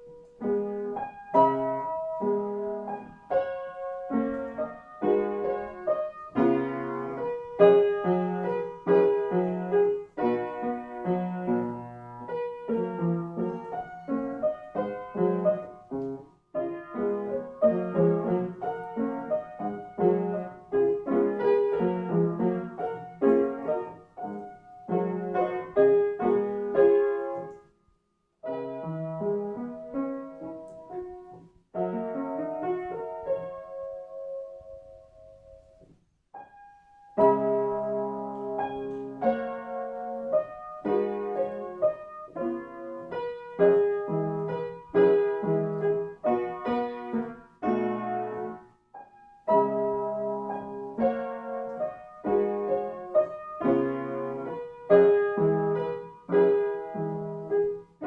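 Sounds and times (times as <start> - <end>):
piano music: 0.0 - 27.8, 28.4 - 58.0.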